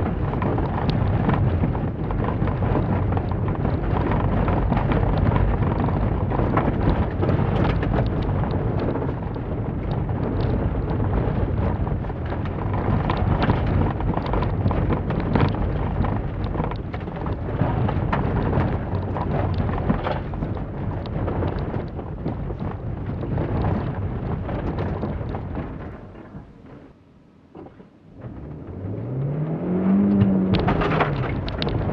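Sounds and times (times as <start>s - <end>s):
gravel clicking on underbody: 0.0s - 26.9s, 27.6s - 31.9s
tyre and floor rumble: 0.0s - 26.9s, 27.6s - 31.9s
car engine under load: 0.0s - 31.9s.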